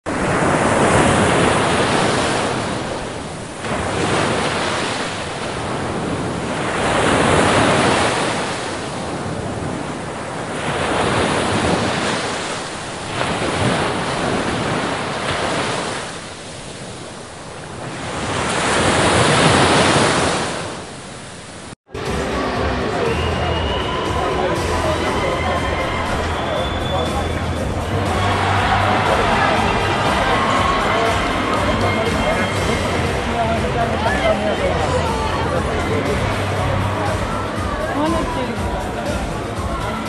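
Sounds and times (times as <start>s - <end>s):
ocean waves surf: 0.0s - 40.0s.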